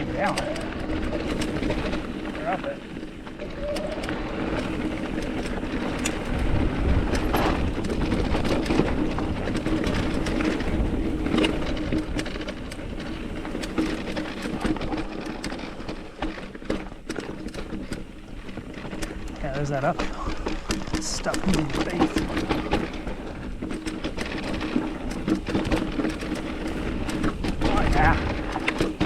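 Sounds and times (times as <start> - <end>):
bike rattling with sharp clicks: 0.0 - 29.0
low wind rumble on microphone: 0.0 - 29.0
tyres crunching over rock: 0.0 - 29.0.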